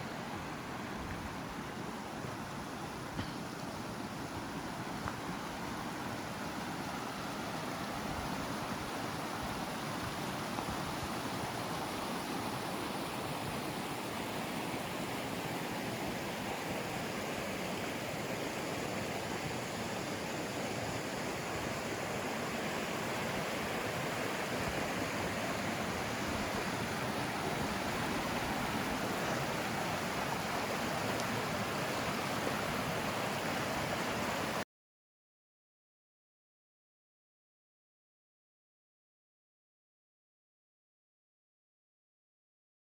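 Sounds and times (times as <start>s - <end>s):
mountain stream rushing: 0.0s - 34.6s.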